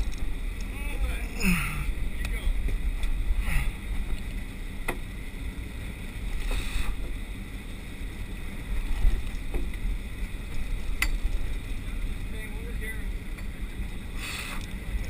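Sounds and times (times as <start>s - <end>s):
boat noise at sea: 0.0s - 15.0s
wind rumble: 0.0s - 15.0s.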